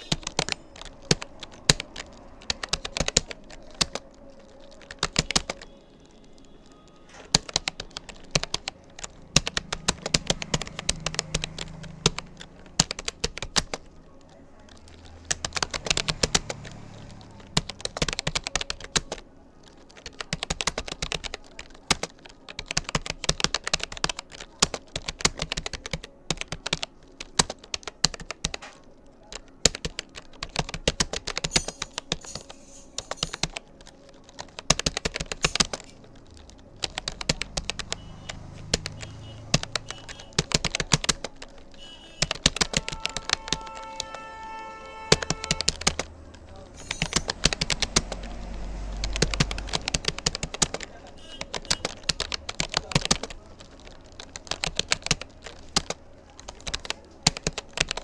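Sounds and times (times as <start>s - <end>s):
typing on computer keyboard: 0.0s - 58.0s.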